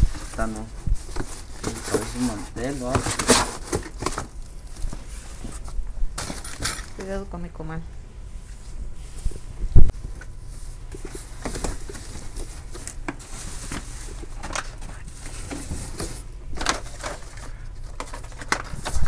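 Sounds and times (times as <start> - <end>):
plastic bags and boxes rustling: 0.0 - 7.2, 9.9 - 19.0.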